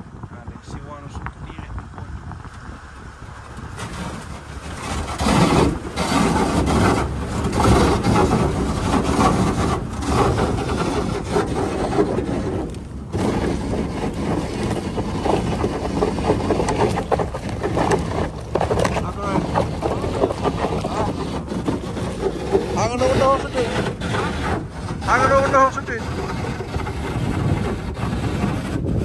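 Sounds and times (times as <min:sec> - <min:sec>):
boat engine running: 0:00.0 - 0:29.0
water noise: 0:00.0 - 0:29.0
wind on microphone: 0:00.0 - 0:29.0.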